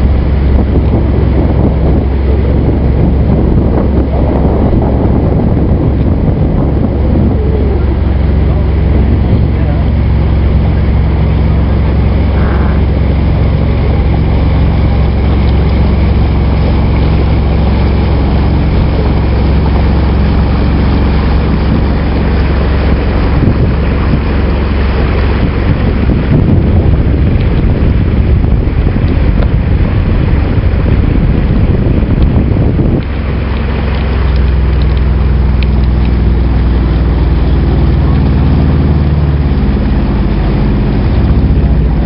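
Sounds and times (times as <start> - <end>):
boat engine humming: 0.0 - 42.0
wind buffeting microphone: 0.0 - 42.0.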